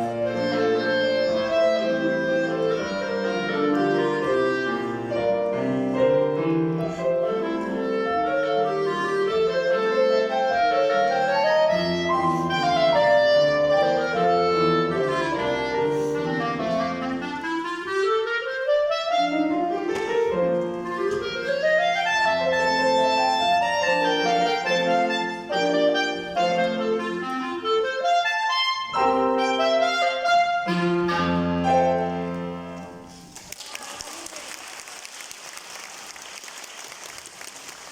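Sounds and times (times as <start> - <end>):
wind instrument melody: 0.0 - 33.4
piano accompaniment: 0.0 - 33.5.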